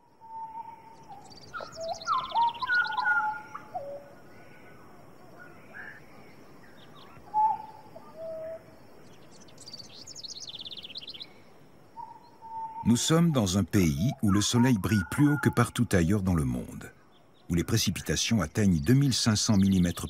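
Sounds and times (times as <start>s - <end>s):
birds whistling: 0.1s - 4.7s, 5.4s - 8.6s, 9.2s - 11.4s, 12.0s - 20.0s.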